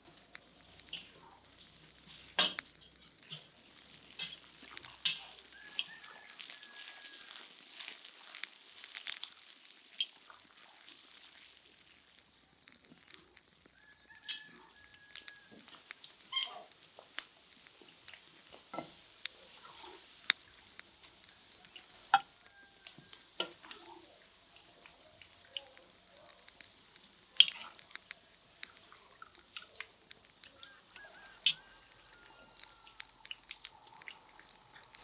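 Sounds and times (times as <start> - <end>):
frying oil sizzling: 0.0 - 35.0.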